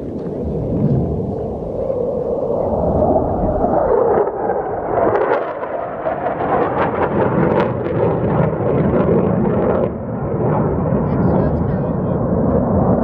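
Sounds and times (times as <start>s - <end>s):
fighter jet flying low: 0.0s - 13.0s.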